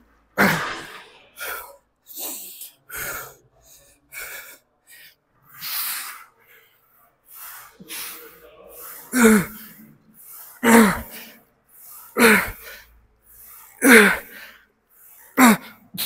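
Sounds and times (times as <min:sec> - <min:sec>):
man breathing hard: 0:00.4 - 0:16.0.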